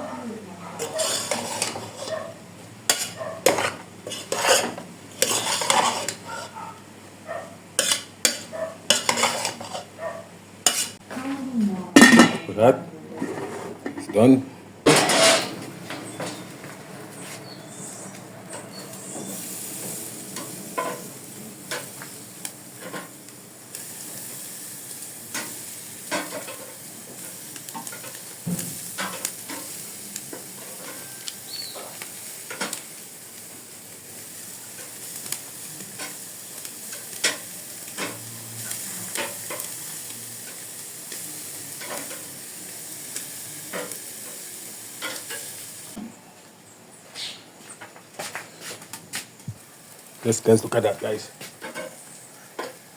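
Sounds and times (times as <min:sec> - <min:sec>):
food sizzling on a grill: 0:00.8 - 0:46.0, 0:46.6 - 0:52.9.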